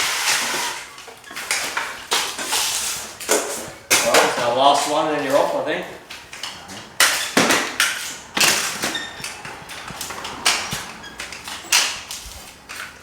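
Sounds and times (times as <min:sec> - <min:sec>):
drywall tools scraping: 0:00.0 - 0:13.0.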